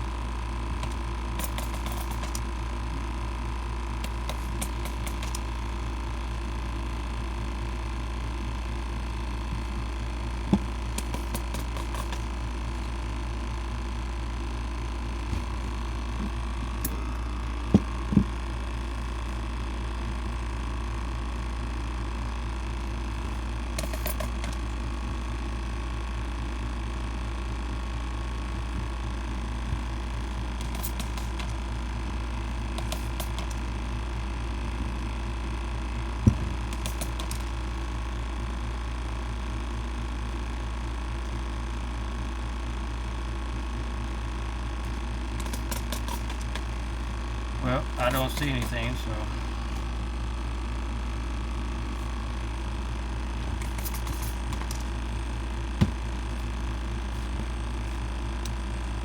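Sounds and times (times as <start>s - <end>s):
small machine buzzing and rattling: 0.0s - 59.0s
steady low hum: 0.0s - 59.0s.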